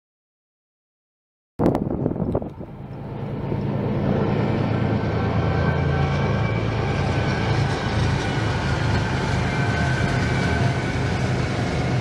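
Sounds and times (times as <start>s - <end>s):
freight locomotives passing: 2.0s - 12.0s.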